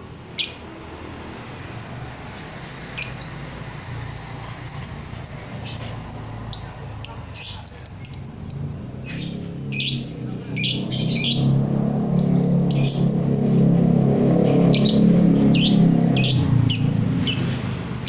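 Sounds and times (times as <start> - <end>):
songbird chirping: 2.2 - 18.0.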